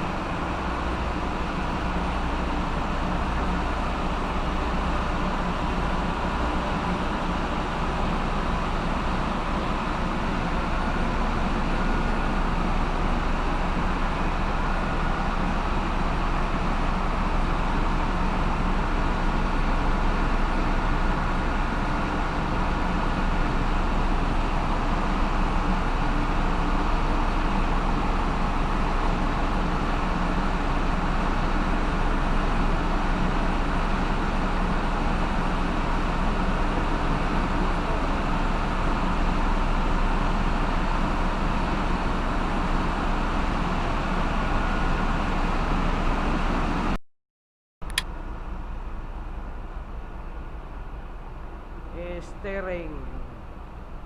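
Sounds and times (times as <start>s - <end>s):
engine-room machinery running: 0.0s - 47.0s.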